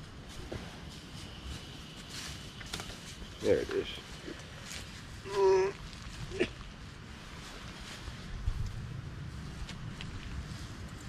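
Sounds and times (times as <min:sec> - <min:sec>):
camping stove burning hiss: 0:00.0 - 0:11.0.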